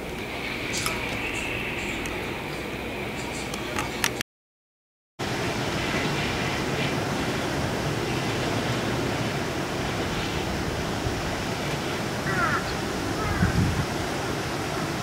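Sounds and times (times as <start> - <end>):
river roaring: 0.0 - 4.2, 5.2 - 15.0
wind: 0.0 - 4.2, 5.2 - 15.0.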